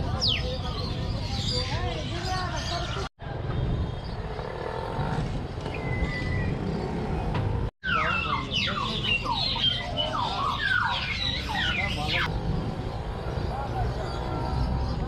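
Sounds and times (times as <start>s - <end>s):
busy market street rumble: 0.0s - 15.0s.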